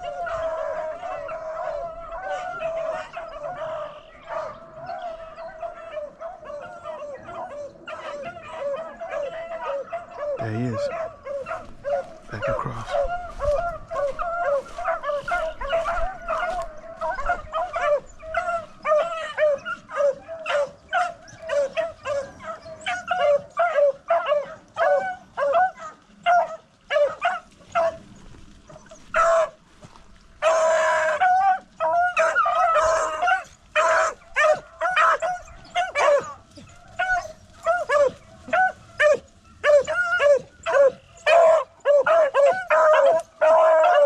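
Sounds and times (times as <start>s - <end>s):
beagles baying: 0.0s - 44.0s.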